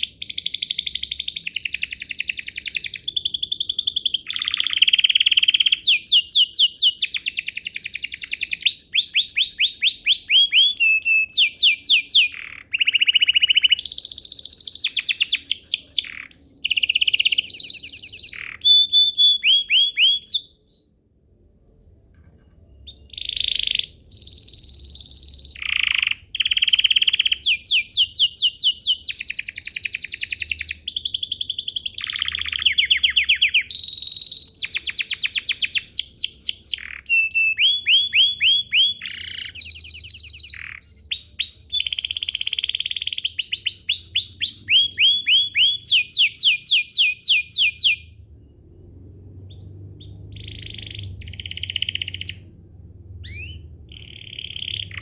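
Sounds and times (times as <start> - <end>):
canary singing trills: 0.0 - 21.0, 22.5 - 55.0.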